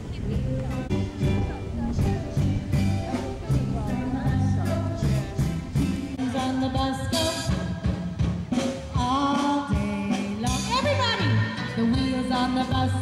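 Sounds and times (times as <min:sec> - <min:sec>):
person singing: 0:00.0 - 0:08.0, 0:08.9 - 0:13.0
drum kit: 0:00.0 - 0:13.0
live band playing: 0:00.0 - 0:13.0.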